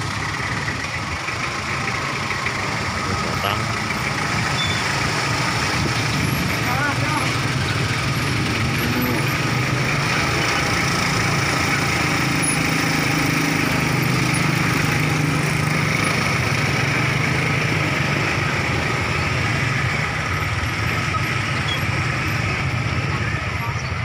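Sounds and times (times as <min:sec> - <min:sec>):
motorcycle engines passing: 0:00.0 - 0:24.0
truck engine idling: 0:00.0 - 0:24.0.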